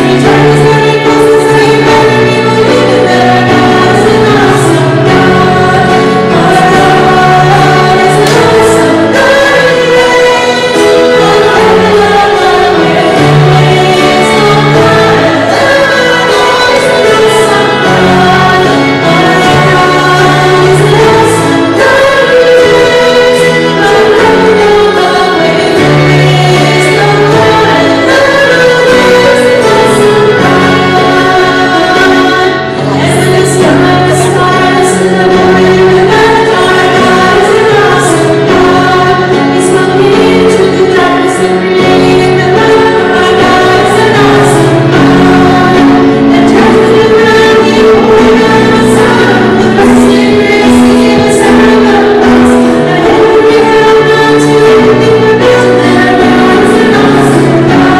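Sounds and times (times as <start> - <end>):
choir singing sacred song: 0.0 - 57.9
steady musical accompaniment: 0.0 - 57.9.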